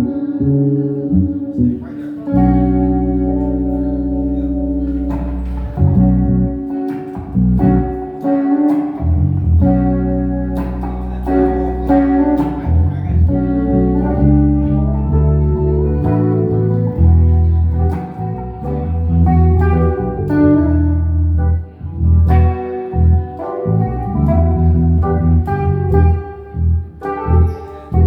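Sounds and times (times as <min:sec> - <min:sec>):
low bass line: 0:00.0 - 0:28.0
plucked guitar: 0:00.0 - 0:28.0.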